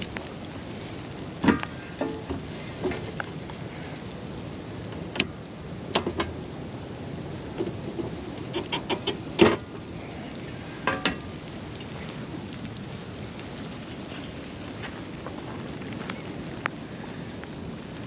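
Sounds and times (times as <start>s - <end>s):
wind and falling sleet: 0.0s - 18.0s.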